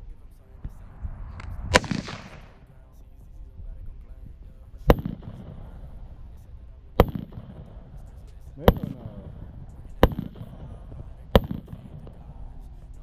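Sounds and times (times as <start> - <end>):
gunshots with echo: 0.0 - 13.0.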